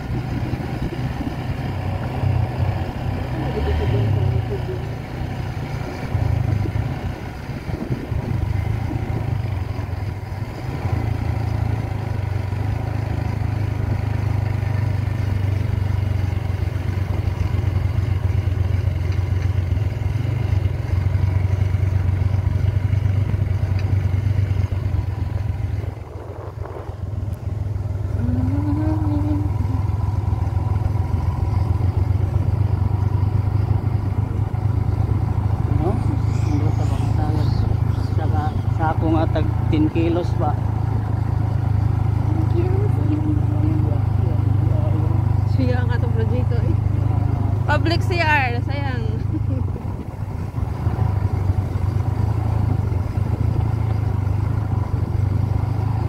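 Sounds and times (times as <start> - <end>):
vehicle engine droning: 0.0 - 56.0
wind and road noise: 0.0 - 56.0.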